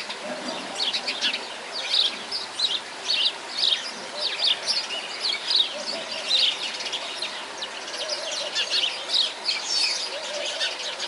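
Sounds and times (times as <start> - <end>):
many small birds chirping: 0.0 - 11.0.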